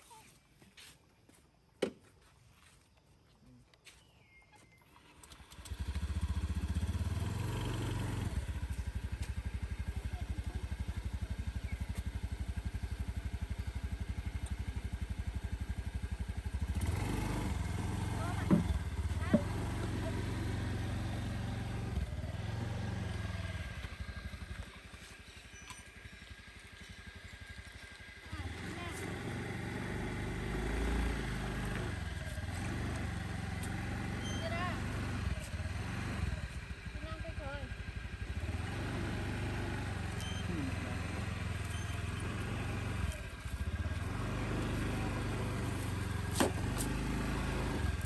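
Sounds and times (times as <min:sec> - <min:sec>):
small motorbike engine running: 0:04.9 - 0:48.0.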